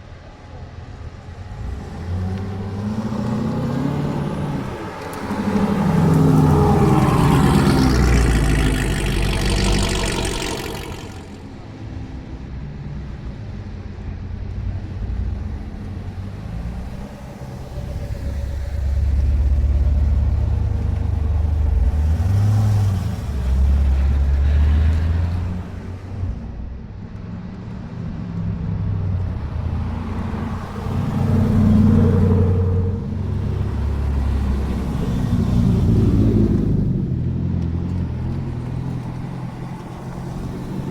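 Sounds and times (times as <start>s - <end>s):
cars driving past: 1.2s - 12.2s, 15.0s - 40.9s.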